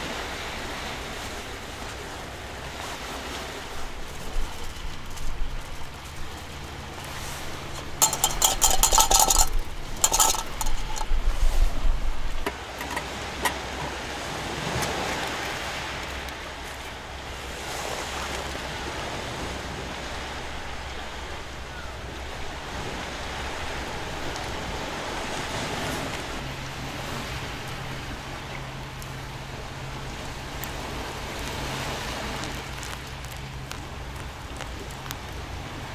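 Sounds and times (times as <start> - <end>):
surf: 0.0 - 35.9
wind: 0.0 - 35.9.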